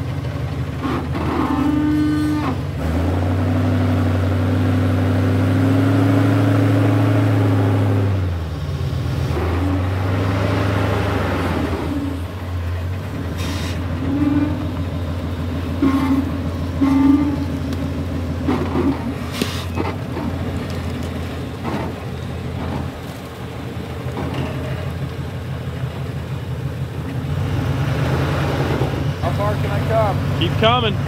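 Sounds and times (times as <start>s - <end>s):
truck engine under load: 0.0s - 31.0s.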